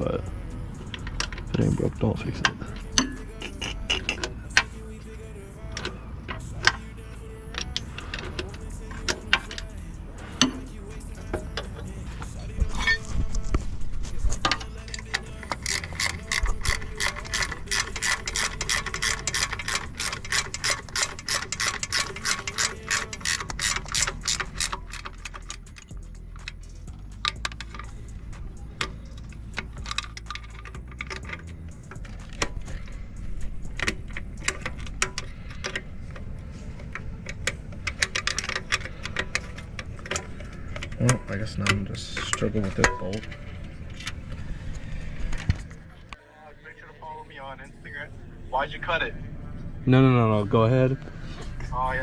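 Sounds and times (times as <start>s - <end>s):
ratchet wrench clicking: 0.0s - 13.5s, 14.2s - 45.5s.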